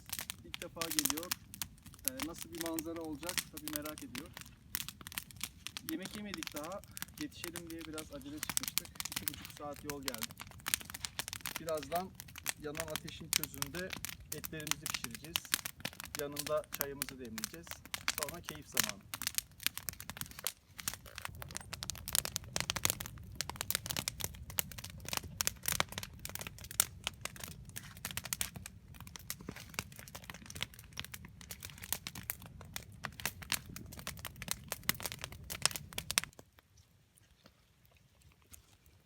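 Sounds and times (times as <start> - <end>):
campfire crackling and popping: 0.0 - 36.8.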